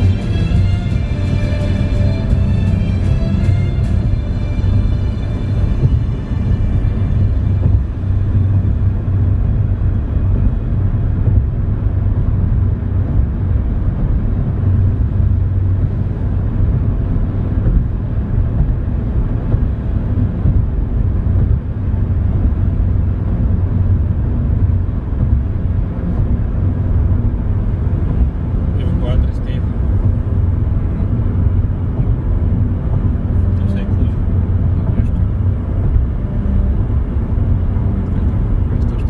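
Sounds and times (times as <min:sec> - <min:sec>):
car engine: 0:00.0 - 0:39.0
tyres on concrete road rumble: 0:00.0 - 0:39.0.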